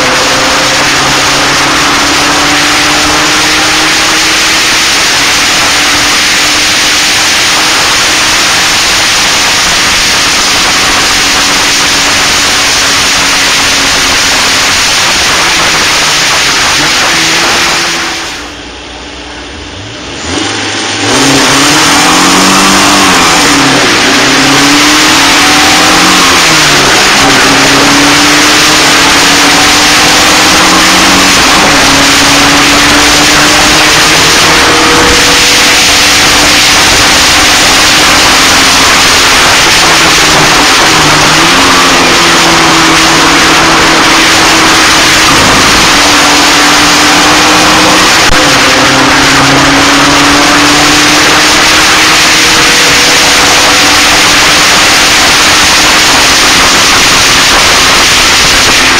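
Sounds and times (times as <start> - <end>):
loud rushing noise: 0.0 - 58.9
race car engine running hard: 0.0 - 58.9.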